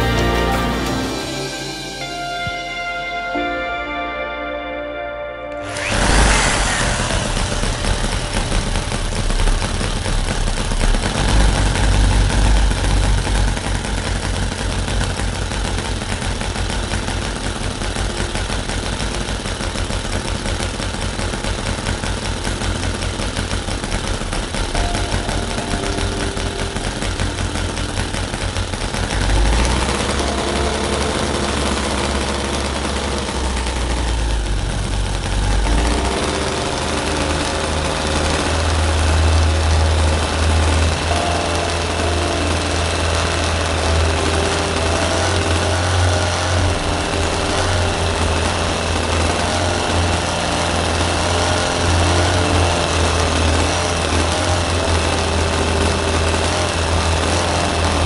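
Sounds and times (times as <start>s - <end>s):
small engine firing rapidly: 5.6s - 58.0s.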